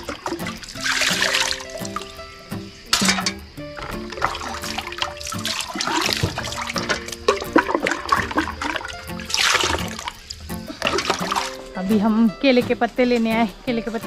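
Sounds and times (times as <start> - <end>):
water sloshing and splashing: 0.0 - 11.9
background music: 0.0 - 14.0.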